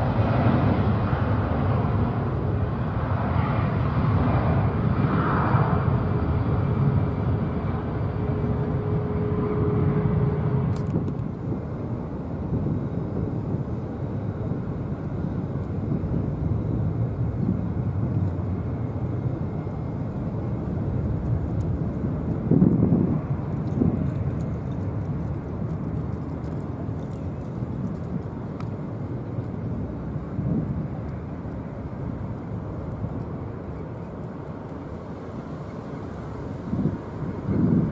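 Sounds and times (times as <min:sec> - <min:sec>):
jet engines rumbling: 0:00.0 - 0:37.9.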